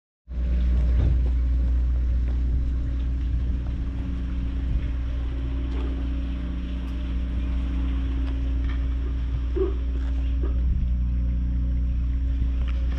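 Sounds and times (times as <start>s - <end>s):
ferry engine idling drone: 0.3s - 12.9s.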